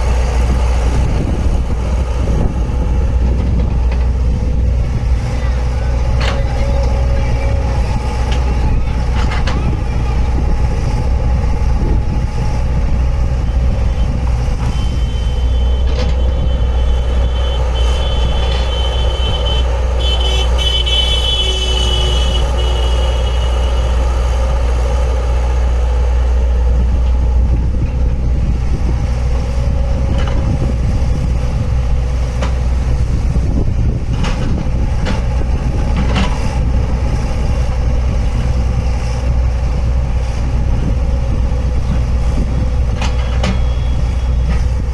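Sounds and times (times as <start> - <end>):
heavy machinery engine droning: 0.0 - 44.9.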